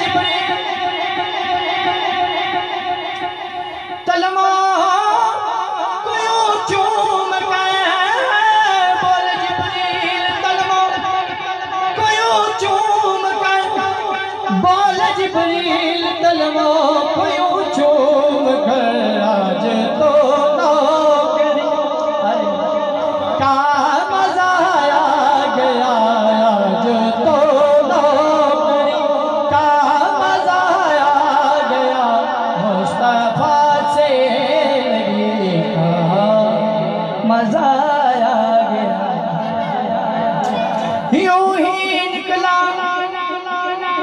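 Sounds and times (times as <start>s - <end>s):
man singing over loudspeaker: 0.0s - 44.0s.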